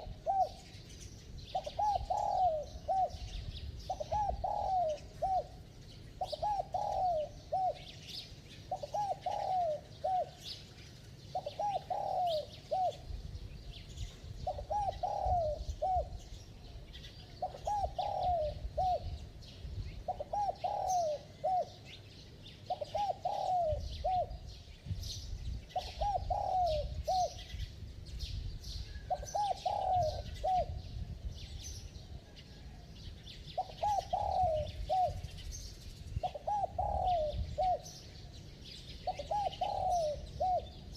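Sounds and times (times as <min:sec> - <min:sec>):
dove cooing: 0:00.0 - 0:27.7, 0:28.8 - 0:40.9.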